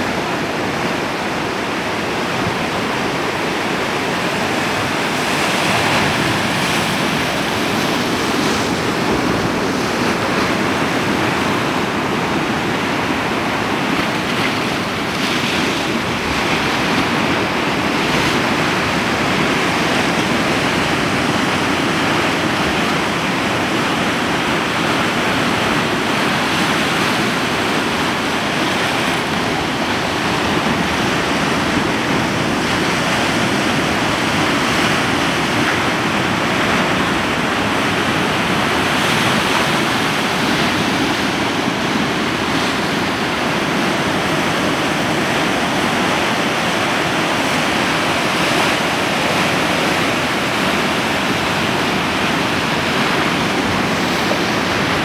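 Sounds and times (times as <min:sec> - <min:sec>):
ocean surf breaking on rocks: 0:00.0 - 0:55.0.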